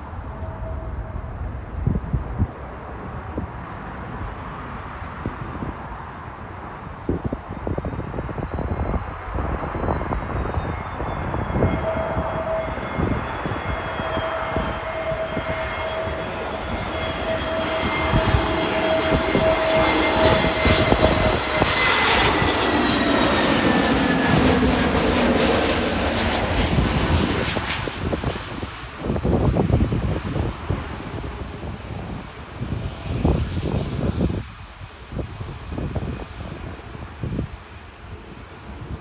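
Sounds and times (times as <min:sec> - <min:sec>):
jet engines whining rumble: 0:00.0 - 0:39.0
wind buffeting microphone: 0:00.0 - 0:39.0.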